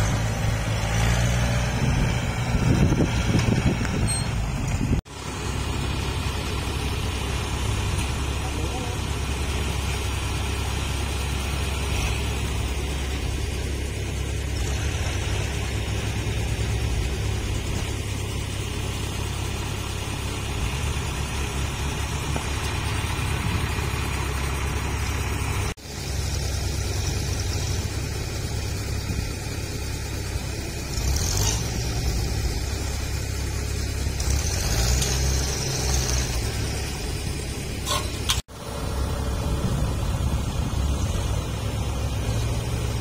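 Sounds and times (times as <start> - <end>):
diesel engine idling: 0.0 - 43.0.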